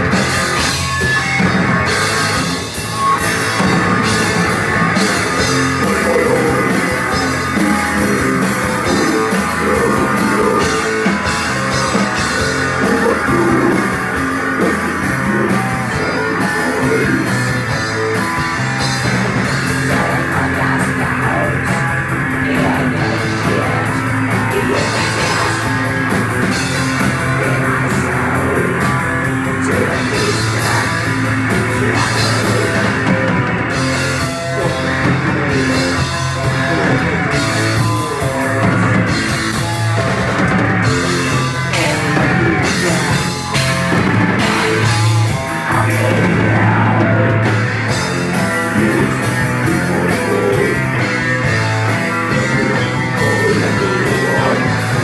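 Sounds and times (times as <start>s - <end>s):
distorted electric guitars: 0.0s - 55.0s
drums with cymbals: 0.0s - 55.0s.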